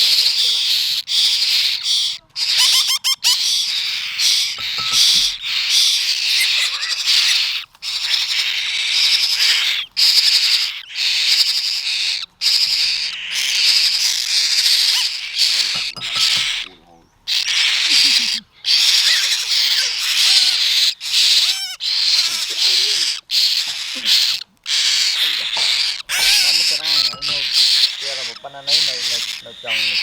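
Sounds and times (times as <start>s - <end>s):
brief bird squeaks: 0.0s - 16.7s, 17.3s - 30.0s
baby birds begging calls: 0.0s - 30.0s.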